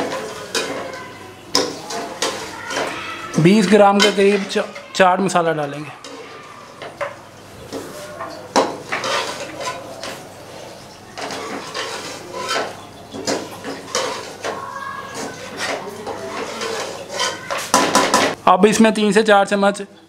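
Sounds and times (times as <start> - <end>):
metal spatula scraping metal pan: 0.0 - 7.0, 7.7 - 18.4.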